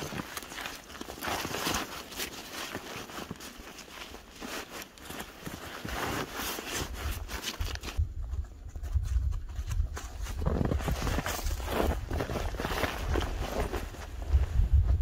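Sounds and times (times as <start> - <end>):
backpack fabric rustling: 0.0 - 8.0, 10.3 - 14.7.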